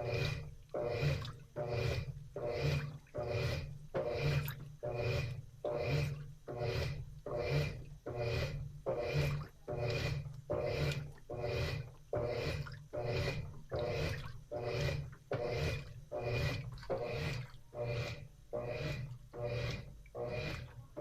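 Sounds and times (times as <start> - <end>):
washing machine churning water: 0.0 - 21.0.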